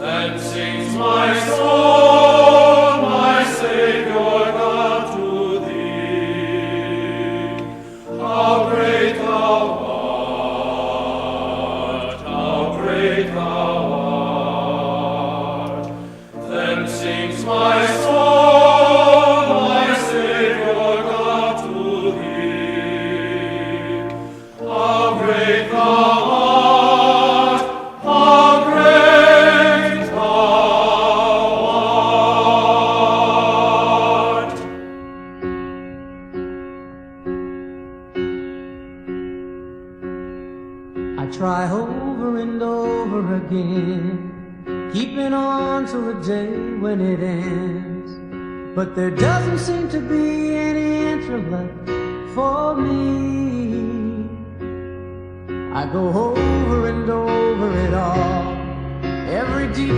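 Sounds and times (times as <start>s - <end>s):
slow choir-like music: 0.0s - 36.5s, 41.1s - 59.9s.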